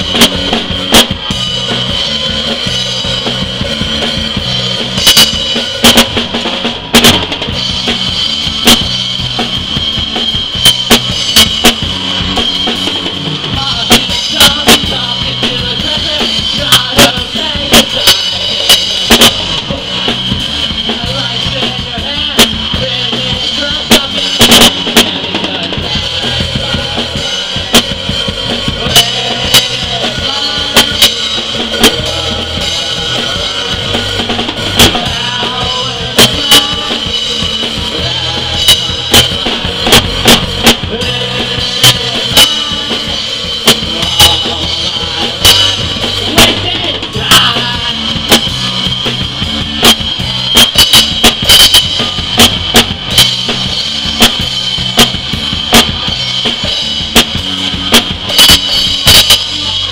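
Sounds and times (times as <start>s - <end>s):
drum and cymbal hits: 0.0s - 59.9s
rock band playing: 0.0s - 59.9s.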